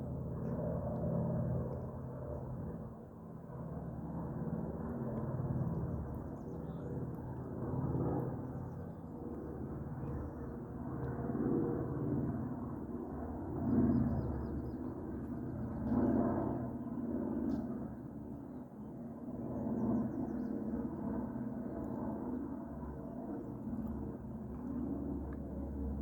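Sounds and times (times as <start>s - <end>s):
propeller engine droning: 0.0s - 26.0s.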